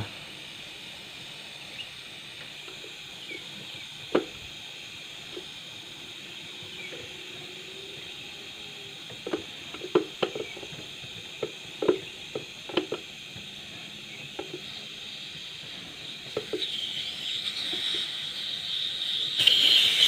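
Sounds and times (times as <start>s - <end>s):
gas hissing from pipe: 0.0s - 20.0s.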